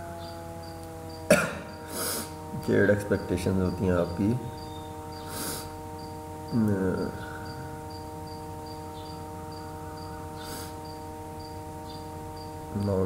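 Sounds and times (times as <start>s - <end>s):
cricket chirping: 0.0s - 13.0s
electrical hum: 0.0s - 13.0s.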